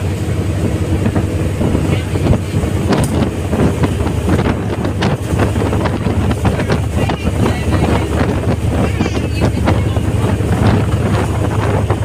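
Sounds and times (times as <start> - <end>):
ferry engines humming: 0.0 - 12.0
wind buffeting microphone: 0.0 - 12.0.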